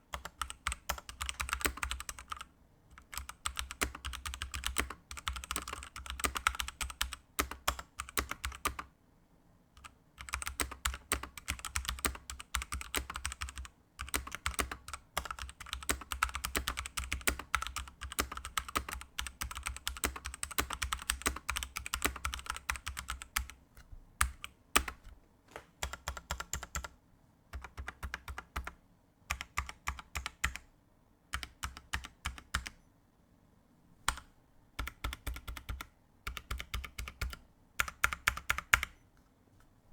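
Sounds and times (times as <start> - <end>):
mechanical keyboard typing: 0.1 - 8.9, 9.8 - 23.6, 24.2 - 30.7, 31.3 - 32.8, 34.1 - 39.0.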